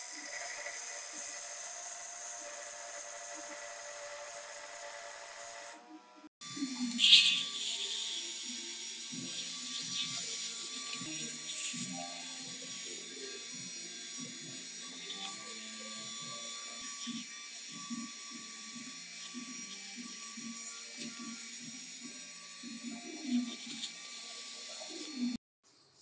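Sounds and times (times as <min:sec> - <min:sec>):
sandpaper scratching metal shaft: 0:00.0 - 0:05.8, 0:06.6 - 0:25.4
small motor whine: 0:00.0 - 0:25.4.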